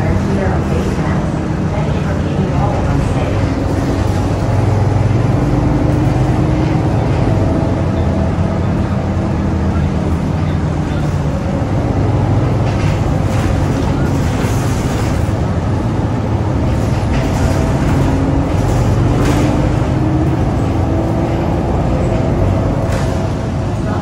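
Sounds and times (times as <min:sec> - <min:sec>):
bus diesel engine running: 0:00.0 - 0:24.0
tyre and road noise: 0:00.0 - 0:24.0.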